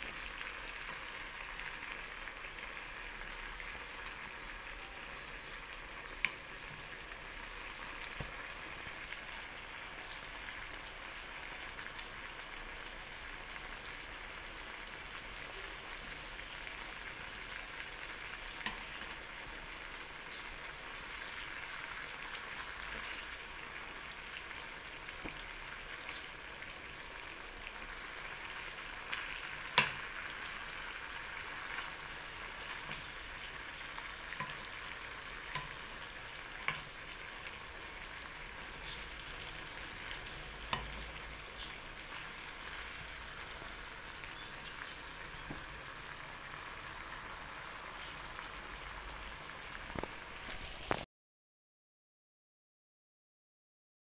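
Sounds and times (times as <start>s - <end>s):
meat sizzling in a pan: 0.0s - 51.0s.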